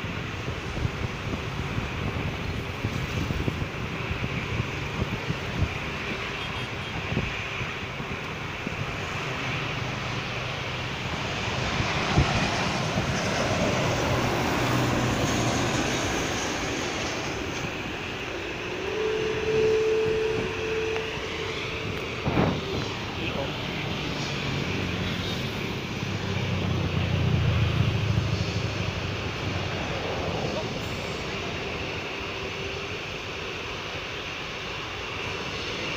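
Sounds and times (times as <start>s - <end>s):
wind buffeting microphone: 0.0s - 33.8s
jet engines roaring: 0.0s - 35.9s.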